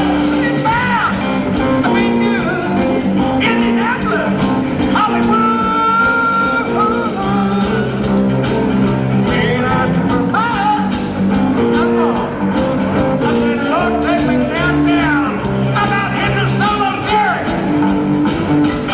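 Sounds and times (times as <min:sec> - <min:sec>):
person singing: 0:00.0 - 0:17.6
live rock band playing: 0:00.0 - 0:18.9.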